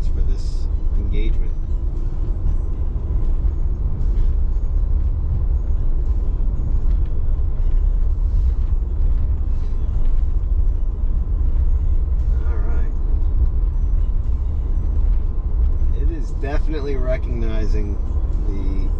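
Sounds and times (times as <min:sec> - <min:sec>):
road and tyre rumble in car: 0:00.0 - 0:18.9.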